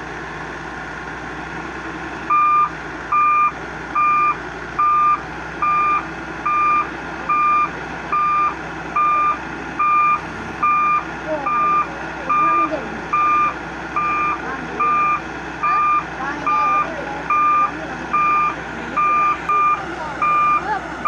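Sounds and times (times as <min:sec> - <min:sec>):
engine running: 0:00.0 - 0:21.0
reversing alarm beeping: 0:02.3 - 0:20.7.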